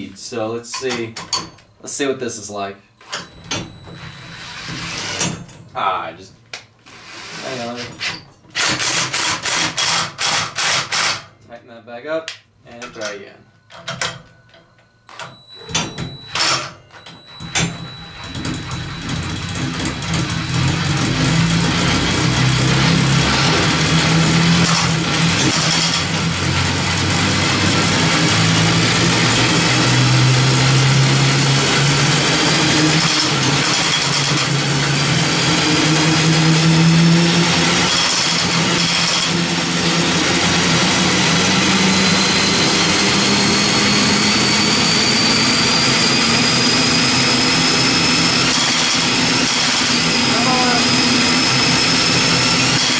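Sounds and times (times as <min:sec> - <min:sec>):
high whine: 0:00.0 - 0:06.4, 0:12.7 - 0:52.9
cordless drill whirring: 0:03.0 - 0:05.3, 0:06.8 - 0:11.3, 0:15.1 - 0:52.9.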